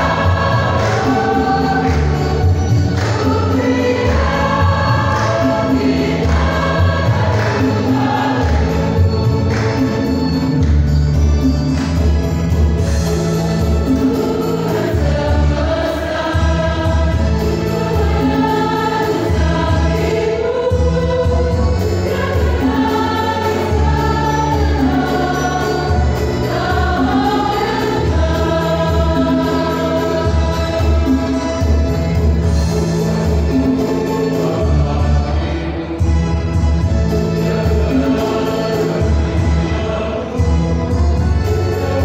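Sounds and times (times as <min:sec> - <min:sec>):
choir singing: 0:00.0 - 0:42.0.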